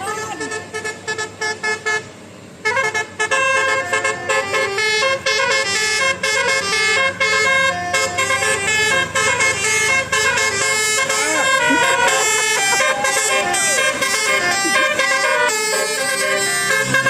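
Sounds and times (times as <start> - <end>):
musical bus air horn: 0.0 - 17.0.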